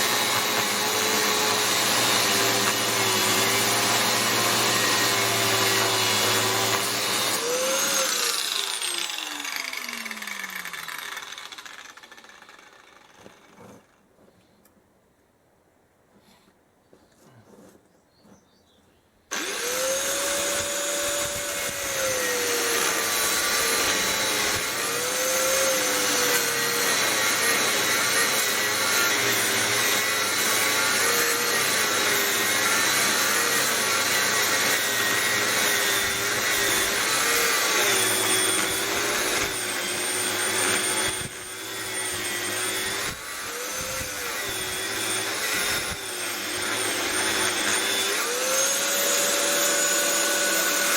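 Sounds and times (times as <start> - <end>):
electric power tool whining: 0.0 - 13.9, 19.3 - 50.9.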